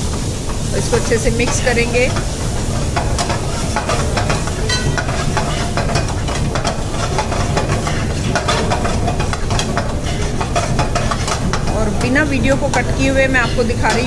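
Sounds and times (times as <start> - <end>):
food sizzling in a pan: 0.0 - 14.0
spoon scraping a pan: 0.4 - 14.0.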